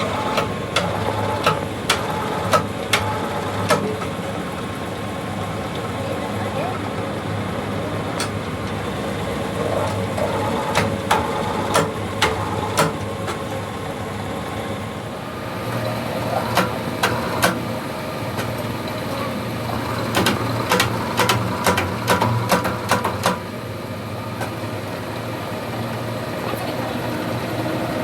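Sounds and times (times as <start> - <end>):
workshop machine humming: 0.0 - 28.0.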